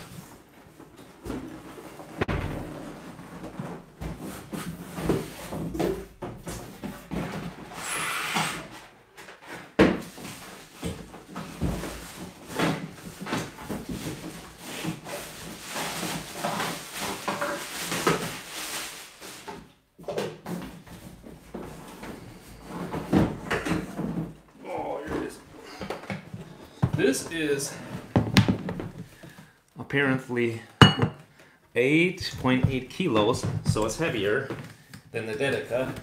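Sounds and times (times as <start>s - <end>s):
plastic wrap and foam rustling: 0.0s - 7.8s, 9.0s - 19.9s, 20.6s - 29.6s, 32.0s - 36.0s.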